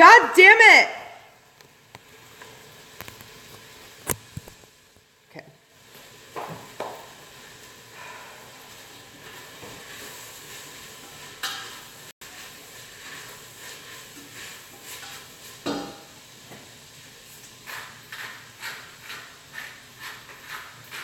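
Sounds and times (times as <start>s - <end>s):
food sizzling in a frying pan: 1.2s - 21.0s.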